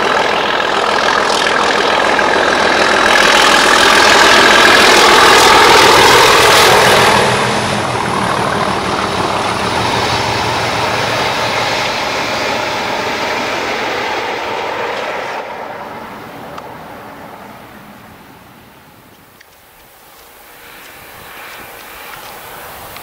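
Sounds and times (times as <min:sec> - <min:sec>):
diesel locomotive engines: 0:00.0 - 0:23.0
train coaches running over rails: 0:00.0 - 0:23.0.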